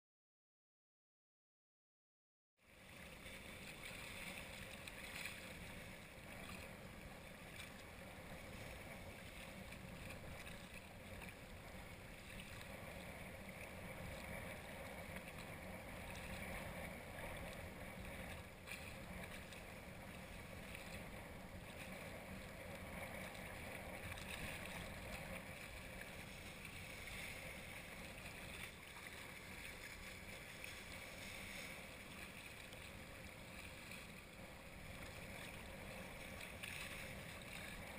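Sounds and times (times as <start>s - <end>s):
small waves lapping: 2.6s - 37.9s
wind: 2.6s - 37.9s.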